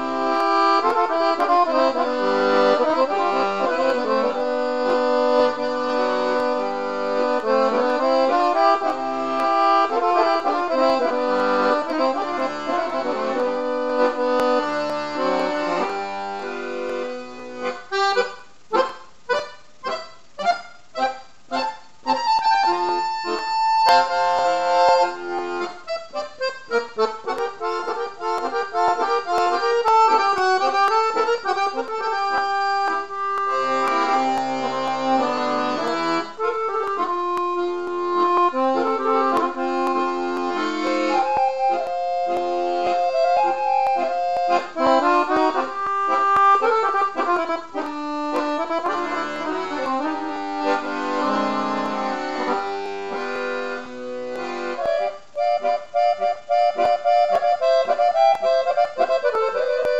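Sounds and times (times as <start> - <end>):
accordion music: 0.0 - 59.9.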